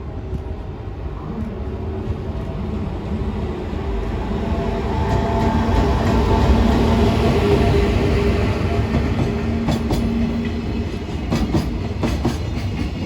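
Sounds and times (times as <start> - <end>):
electric locomotive hauling freight train: 0.0 - 13.0.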